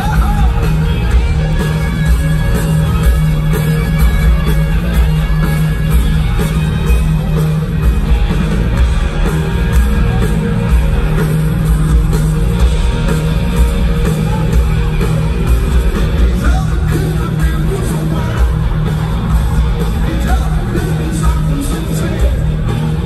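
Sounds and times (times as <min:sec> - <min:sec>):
bass guitar: 0:00.0 - 0:23.0
distorted electric guitars: 0:00.0 - 0:23.0
steady drum beat: 0:00.0 - 0:23.0.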